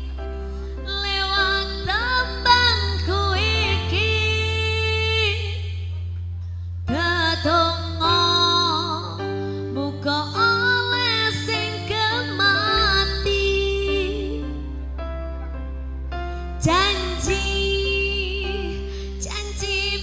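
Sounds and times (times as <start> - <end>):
woman singing into a microphone: 0.0 - 6.2, 6.9 - 14.8, 16.6 - 20.0
steady bass: 0.0 - 20.0.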